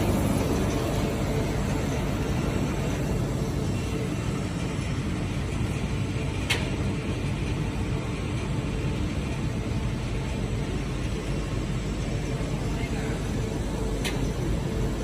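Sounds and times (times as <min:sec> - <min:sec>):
machine running steadily: 0:00.0 - 0:15.0.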